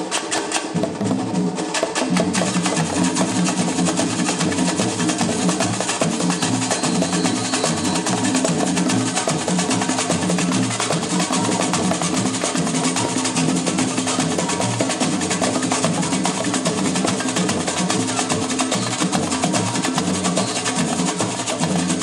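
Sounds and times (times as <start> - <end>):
hand drums playing fast rhythm: 0.0 - 22.0
high percussion rattle: 0.0 - 22.0.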